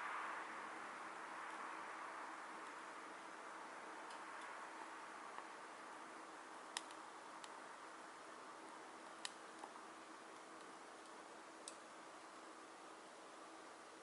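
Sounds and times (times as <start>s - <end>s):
fire burning with crackles: 0.0s - 14.0s.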